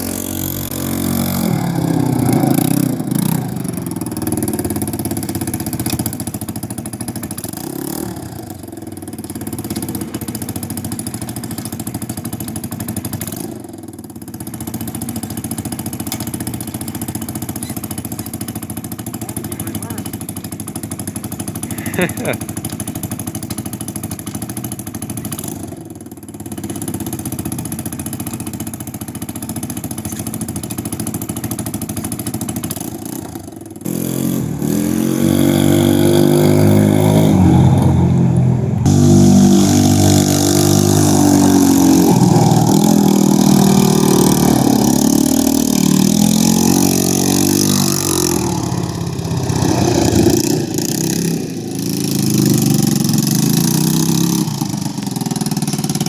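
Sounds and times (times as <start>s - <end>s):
atv engine idling and revving: 0.0s - 56.0s.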